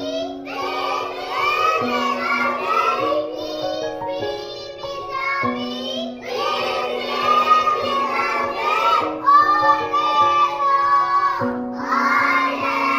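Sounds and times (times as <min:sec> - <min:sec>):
children singing together: 0:00.0 - 0:12.9.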